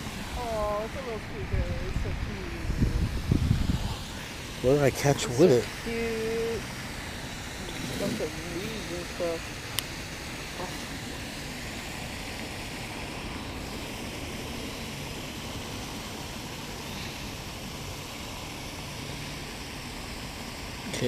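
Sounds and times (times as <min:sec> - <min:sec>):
rushing outdoor background noise: 0:00.0 - 0:21.0.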